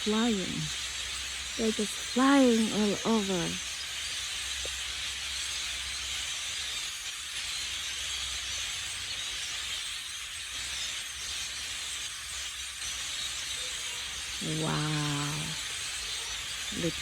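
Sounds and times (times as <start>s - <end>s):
flock of blackbirds chattering: 0.0s - 17.0s.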